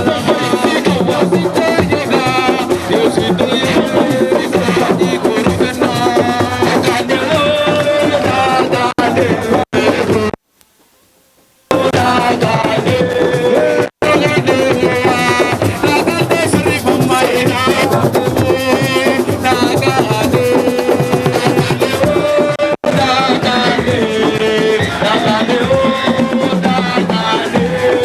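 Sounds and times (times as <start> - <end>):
fast hand drumming: 0.0 - 10.4, 11.7 - 28.0
person singing: 0.0 - 10.4, 11.7 - 28.0.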